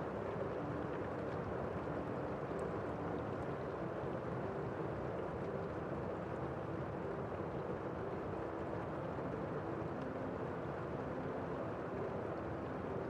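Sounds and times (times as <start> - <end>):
muffled rain falling: 0.0 - 13.0.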